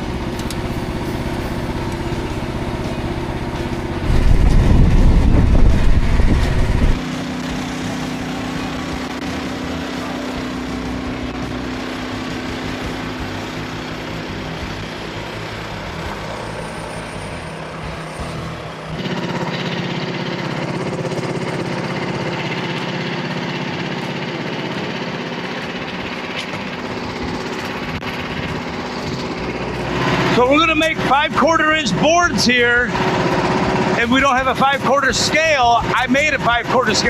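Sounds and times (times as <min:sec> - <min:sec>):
small gasoline engine running: 0:00.0 - 0:37.0.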